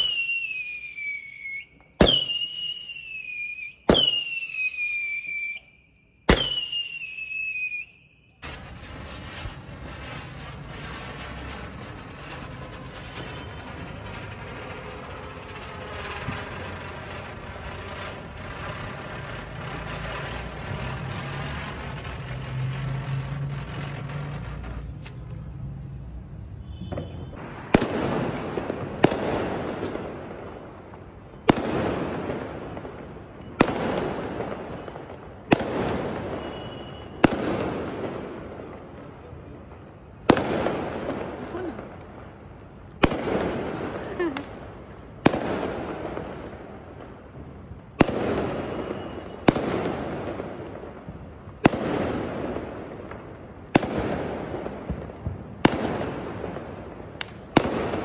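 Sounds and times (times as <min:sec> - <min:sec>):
ground firework hissing crackle: 0:00.0 - 0:05.6, 0:06.3 - 0:33.0, 0:39.6 - 0:58.0
firework bangs echoing: 0:02.0 - 0:02.9, 0:06.3 - 0:07.2, 0:08.4 - 0:39.0, 0:40.2 - 0:42.0, 0:43.0 - 0:47.2, 0:47.9 - 0:58.0.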